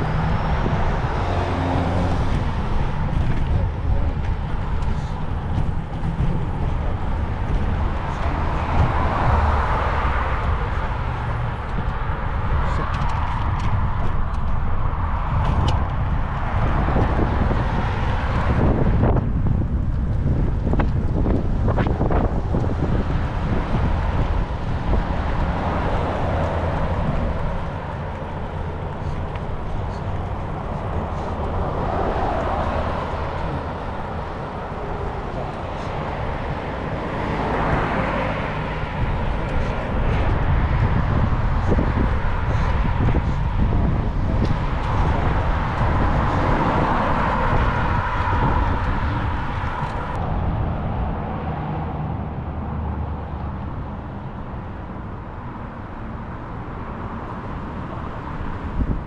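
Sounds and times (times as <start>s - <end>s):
outdoor road noise: 0.0s - 59.0s
wind rumbling on microphone: 0.0s - 59.0s.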